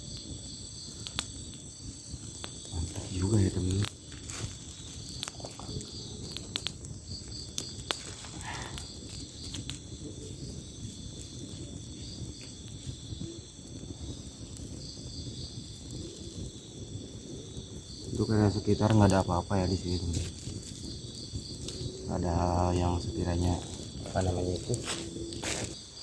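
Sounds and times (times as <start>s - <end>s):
crickets and insects trilling: 0.0s - 26.0s
pulsing insect call: 0.0s - 26.0s.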